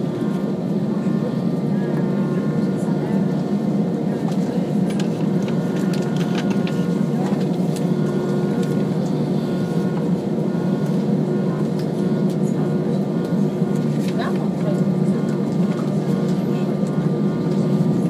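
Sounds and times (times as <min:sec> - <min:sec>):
jet engines idling low rumble: 0:00.0 - 0:18.0
steady whining tones: 0:00.0 - 0:18.0.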